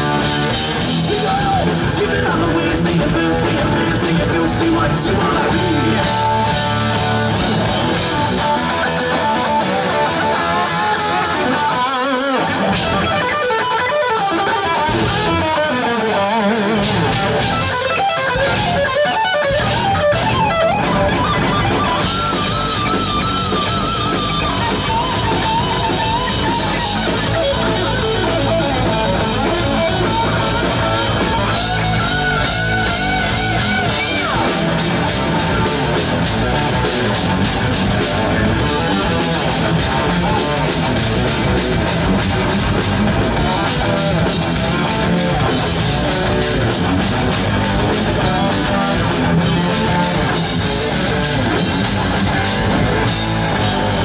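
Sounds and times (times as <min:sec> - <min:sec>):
electric guitar lead with bent notes: 0:00.0 - 0:54.0
heavy metal band playing: 0:00.0 - 0:54.0.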